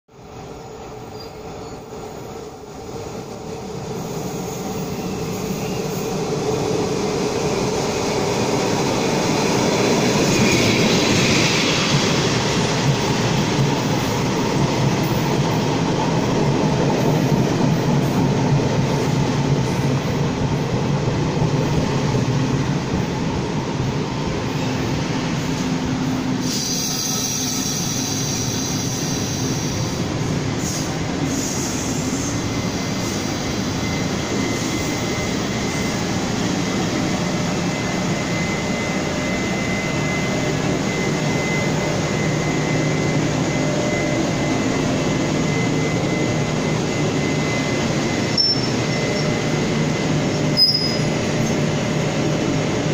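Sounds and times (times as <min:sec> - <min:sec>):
train running on rails: 0:00.1 - 0:52.9.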